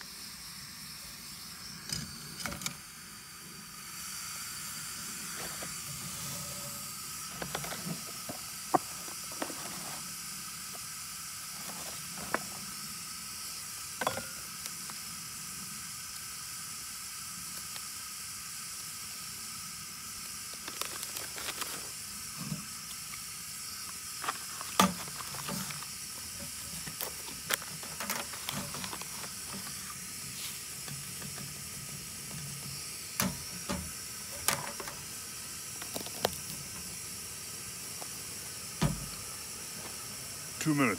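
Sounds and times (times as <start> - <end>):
gas burner hissing: 0.0 - 40.9.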